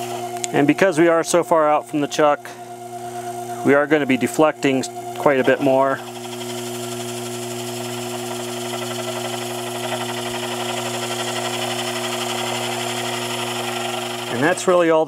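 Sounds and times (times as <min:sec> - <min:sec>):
lathe humming while cutting: 0:00.0 - 0:15.0.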